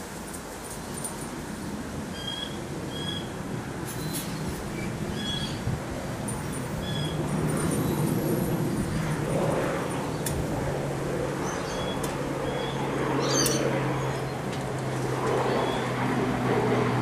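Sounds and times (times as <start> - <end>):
steady low hum: 0.0 - 17.0
wind gusting over microphone: 1.3 - 17.0.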